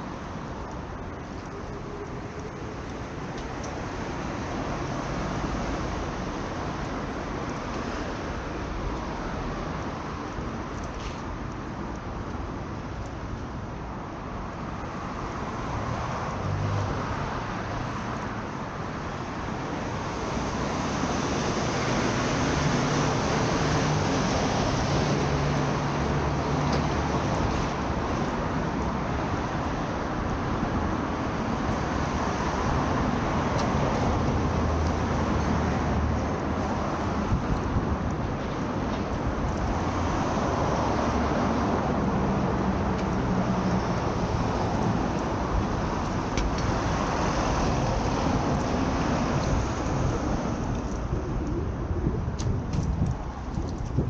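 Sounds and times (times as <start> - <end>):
vehicles passing on street: 0.0 - 54.0.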